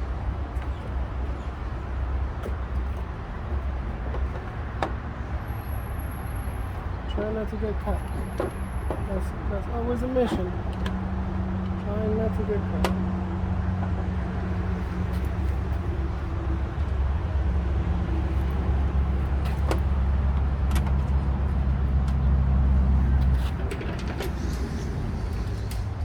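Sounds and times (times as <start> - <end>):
engine low rumble: 0.0 - 26.0.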